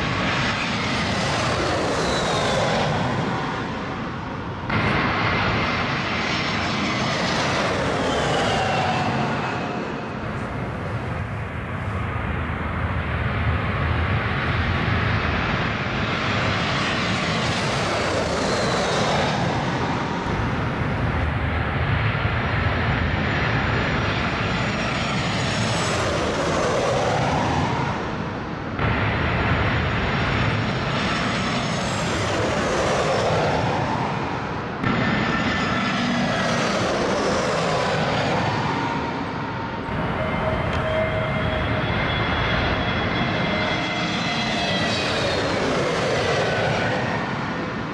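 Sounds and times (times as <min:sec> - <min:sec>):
jet airliners passing overhead: 0:00.0 - 0:47.9.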